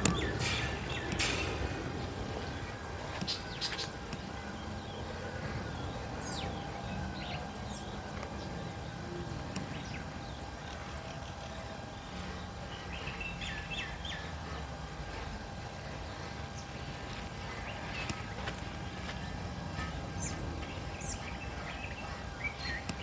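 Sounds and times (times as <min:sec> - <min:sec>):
low outdoor rumble: 0:00.0 - 0:23.0
small birds chirping: 0:00.0 - 0:23.0.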